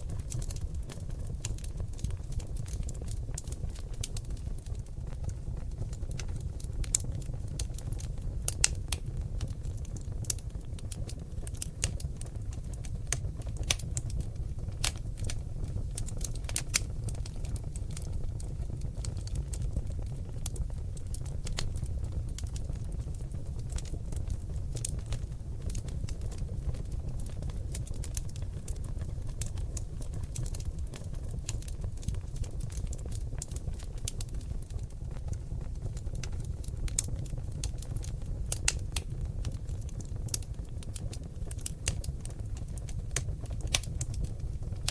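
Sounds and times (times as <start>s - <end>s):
logs burning with crackles: 0.0s - 44.9s.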